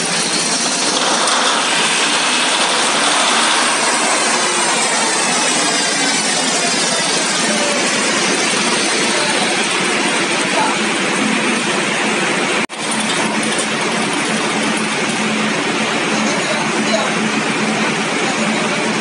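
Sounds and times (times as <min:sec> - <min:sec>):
loud engine running: 0:00.0 - 0:19.0.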